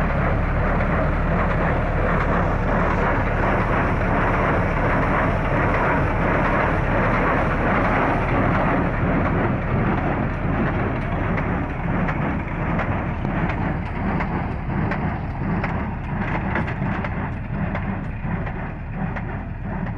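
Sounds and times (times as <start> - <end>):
straw baler running: 0.0 - 19.9.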